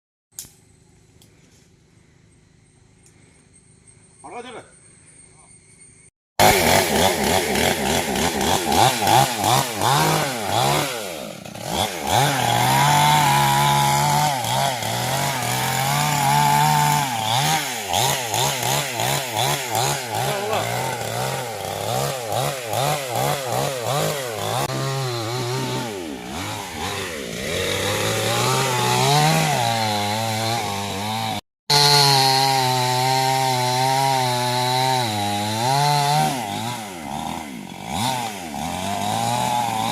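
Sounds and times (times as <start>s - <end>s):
chainsaw cutting wood: 6.4s - 39.9s.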